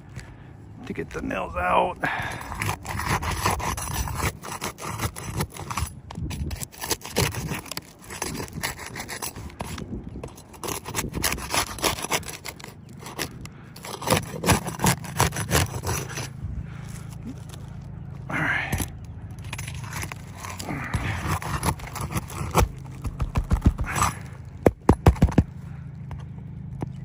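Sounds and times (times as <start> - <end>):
roof shingles scraping: 0.8 - 27.0.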